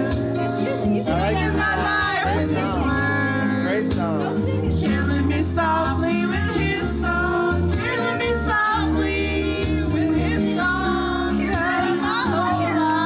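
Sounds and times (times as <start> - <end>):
backing music: 0.0 - 13.0
women singing together: 0.0 - 13.0.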